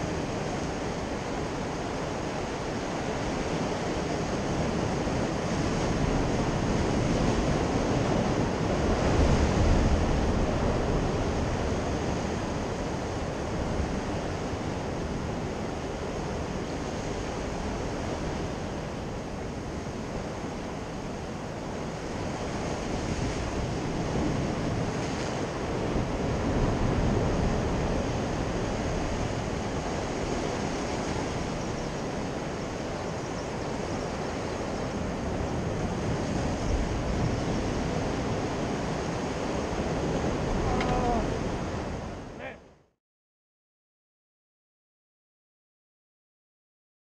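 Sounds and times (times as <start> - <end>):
sea surf breaking on rocks: 0.0 - 18.8, 21.6 - 42.6.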